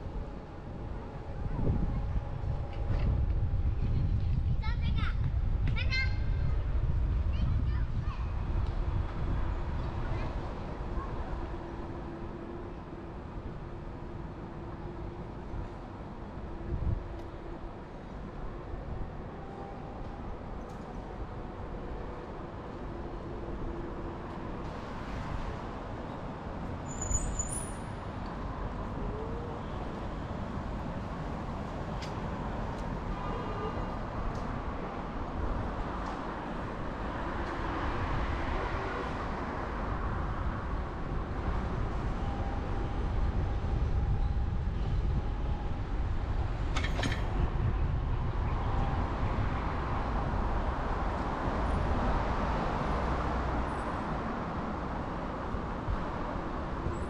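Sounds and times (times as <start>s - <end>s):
street traffic: 0.0s - 57.0s.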